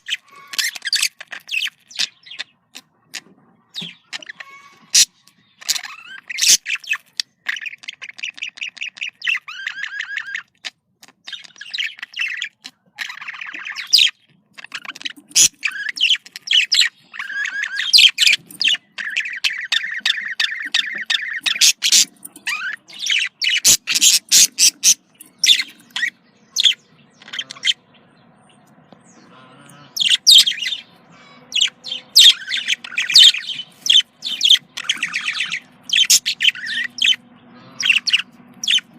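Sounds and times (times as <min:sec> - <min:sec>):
budgerigars chattering and warbling: 0:00.0 - 0:38.9
high bird chirps and squawks: 0:00.0 - 0:38.9.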